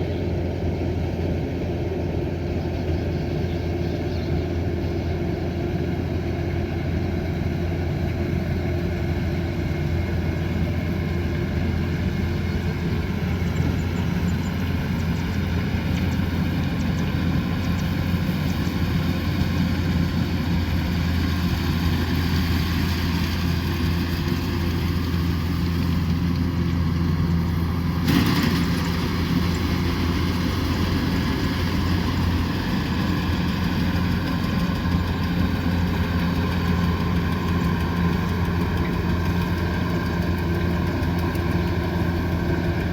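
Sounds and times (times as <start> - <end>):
combine harvester drone: 0.0 - 42.9.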